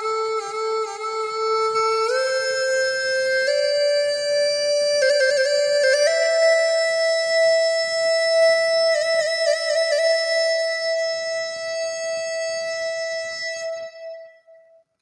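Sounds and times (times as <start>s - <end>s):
free-reed pipe long note: 0.0s - 14.8s.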